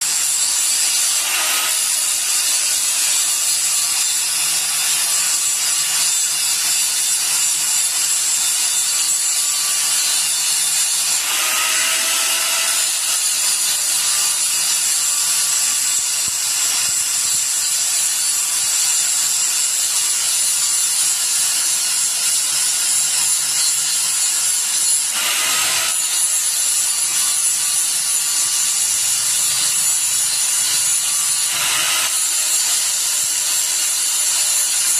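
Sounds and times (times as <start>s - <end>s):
grinder grinding metal: 0.0s - 34.9s.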